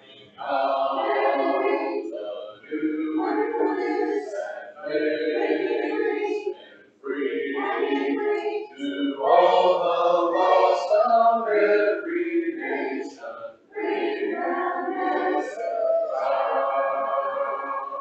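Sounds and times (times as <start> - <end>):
congregation singing a hymn: 0.0 - 18.0.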